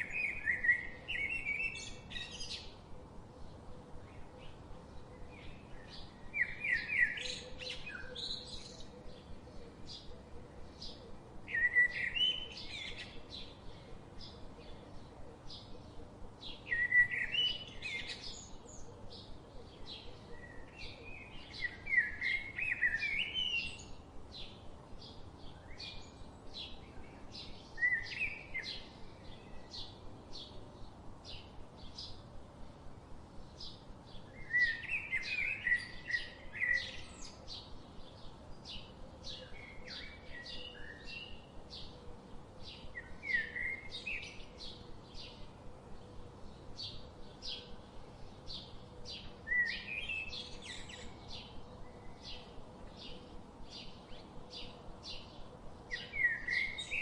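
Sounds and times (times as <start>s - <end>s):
bird warbling song: 0.0s - 32.3s, 33.4s - 57.0s.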